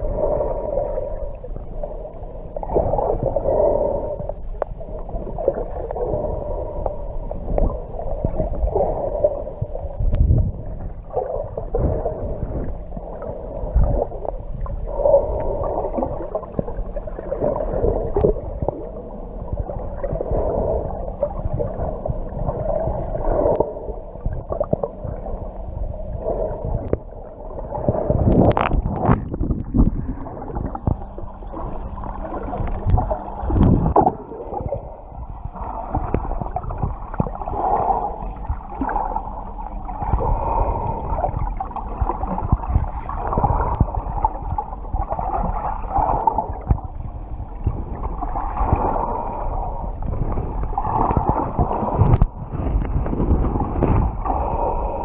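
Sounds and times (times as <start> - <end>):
muffled underwater water sloshing: 0.0 - 55.0.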